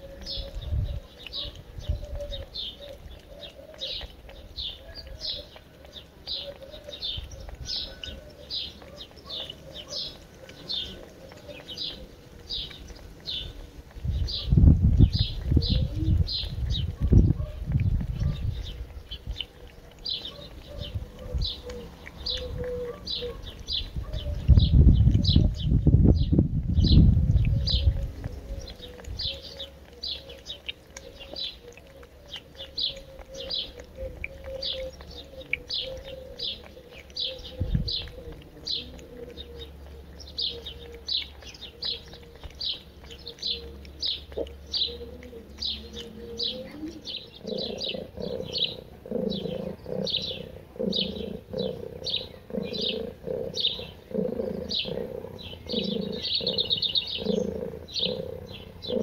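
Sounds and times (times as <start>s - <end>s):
pigeon cooing: 0.0s - 26.3s, 26.9s - 59.0s
songbirds chirping: 0.0s - 59.0s.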